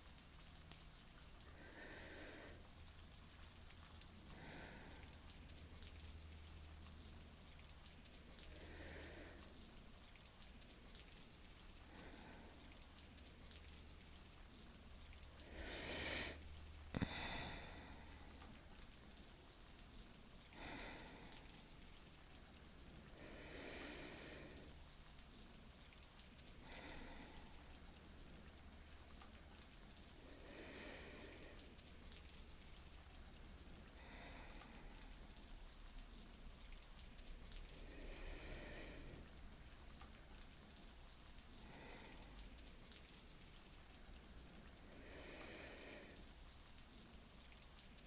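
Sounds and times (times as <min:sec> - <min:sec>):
person breathing softly: 0:00.0 - 0:06.0, 0:07.9 - 0:48.0
steady rain falling: 0:00.0 - 0:48.0.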